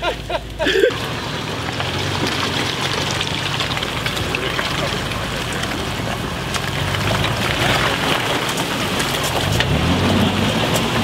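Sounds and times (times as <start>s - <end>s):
tyres splashing through mud water: 0.0s - 11.0s
vehicle engine running: 0.0s - 11.0s.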